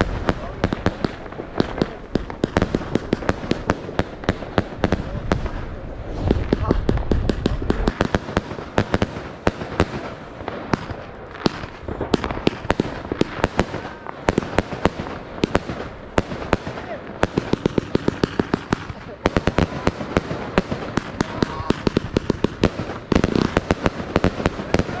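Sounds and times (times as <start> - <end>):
fireworks bangs and cracks: 0.0 - 25.0.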